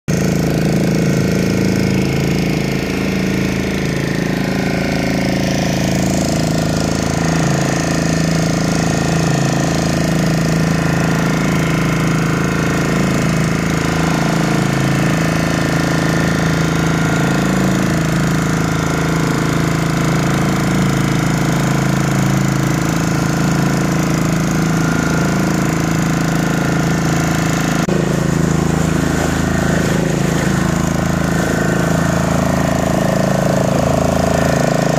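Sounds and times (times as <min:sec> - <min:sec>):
boat engine knocking drone: 0:00.1 - 0:34.9.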